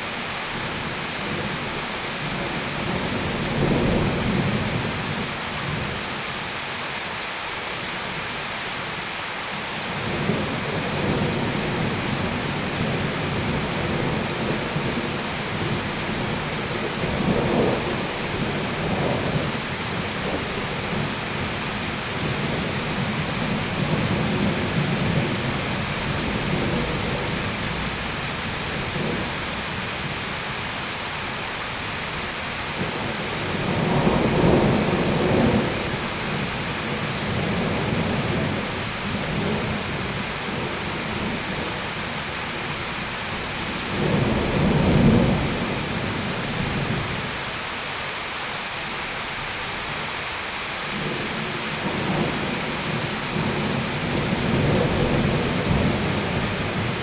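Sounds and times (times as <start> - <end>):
heavy rain: 0.0 - 57.0
thunder rumbling: 0.6 - 6.0, 9.9 - 30.3, 32.2 - 47.2, 50.9 - 57.0.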